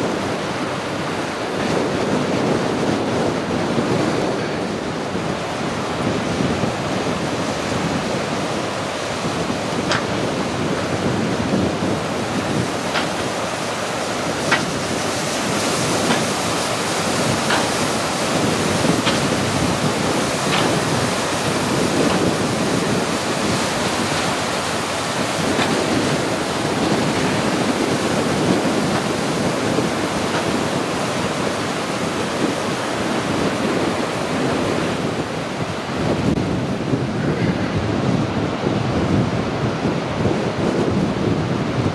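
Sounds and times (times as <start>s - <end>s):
surf waves breaking: 0.0s - 41.9s
wind buffeting microphone: 0.0s - 41.9s.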